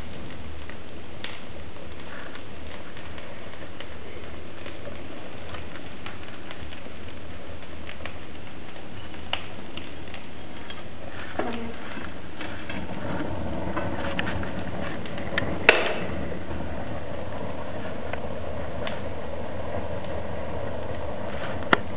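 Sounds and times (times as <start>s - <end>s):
fire crackling in a stove: 0.0s - 21.9s.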